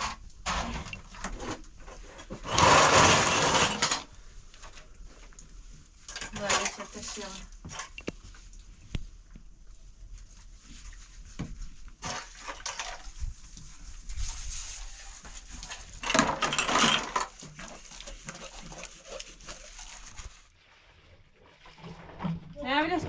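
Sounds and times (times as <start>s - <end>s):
steady rustling noise: 0.0s - 23.0s.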